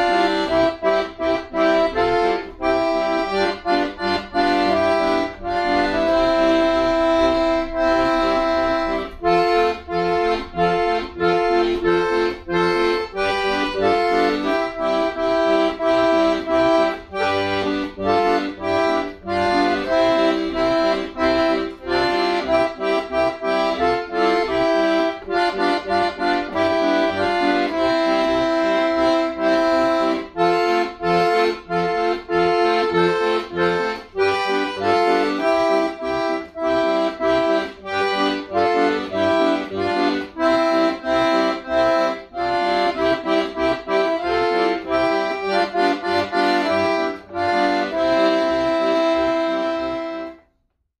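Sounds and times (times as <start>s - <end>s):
accordion playing folk tune: 0.0s - 51.0s.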